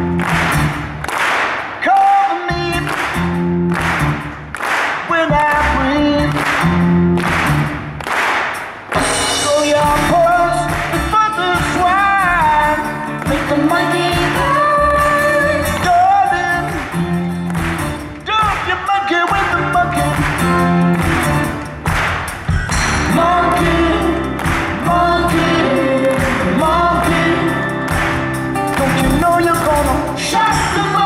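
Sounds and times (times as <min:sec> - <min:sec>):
pop-rock band playing: 0:00.0 - 0:31.0.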